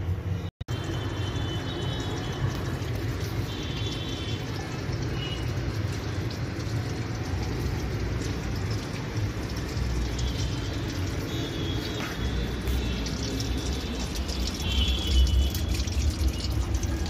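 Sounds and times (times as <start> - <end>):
washing machine rumbling: 0.8 - 17.0.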